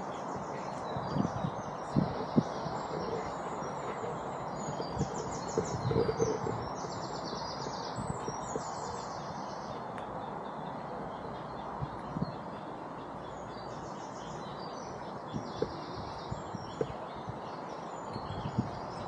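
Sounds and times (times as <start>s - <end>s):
outdoor background noise: 0.0s - 19.0s
songbirds trilling: 0.0s - 19.0s.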